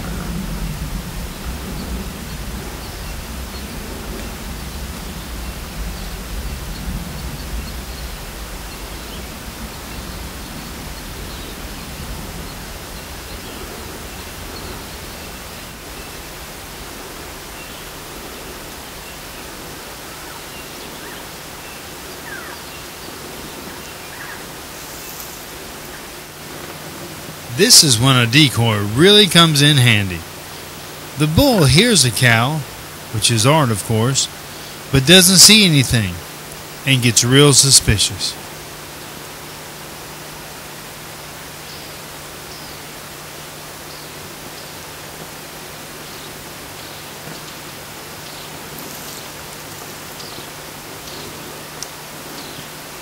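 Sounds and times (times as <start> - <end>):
outdoor background hiss: 0.0 - 53.0.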